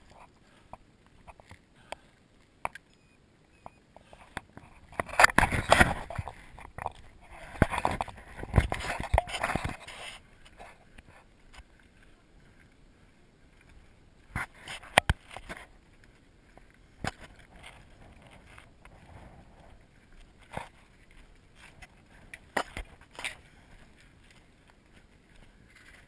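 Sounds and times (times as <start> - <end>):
footsteps on scree and rock: 4.0 - 12.8, 13.5 - 26.0.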